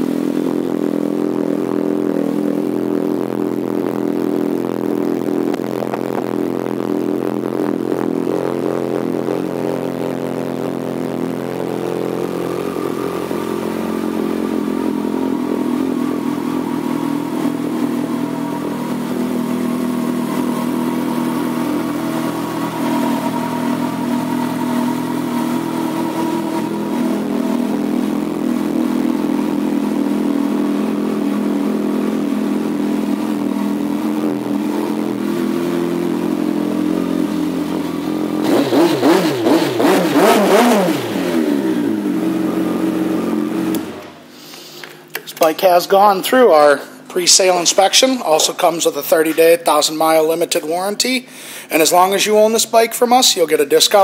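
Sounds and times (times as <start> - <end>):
motorcycle engine idling: 0.0 - 45.1.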